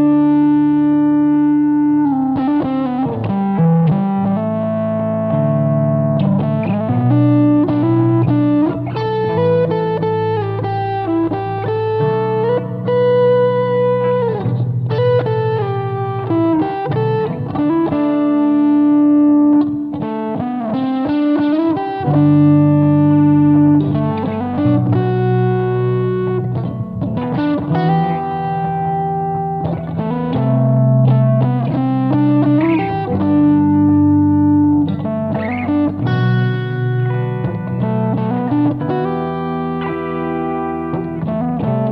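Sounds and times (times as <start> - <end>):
electric guitar music: 0.0 - 41.9.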